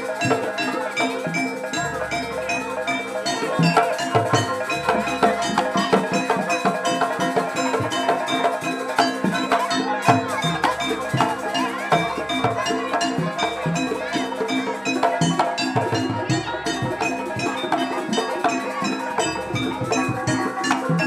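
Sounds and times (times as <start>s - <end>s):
percussion ensemble: 0.0s - 21.0s.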